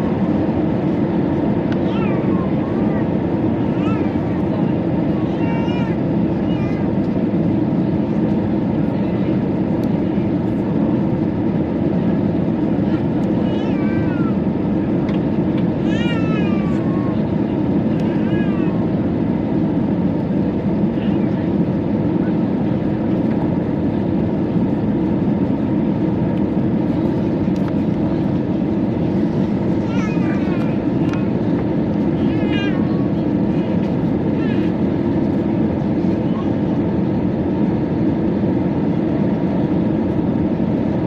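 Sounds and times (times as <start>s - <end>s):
airplane cabin engine drone: 0.0s - 41.0s.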